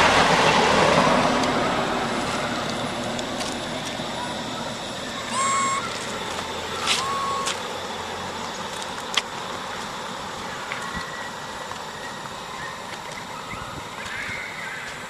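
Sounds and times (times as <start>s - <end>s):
road traffic rush: 0.0s - 15.0s.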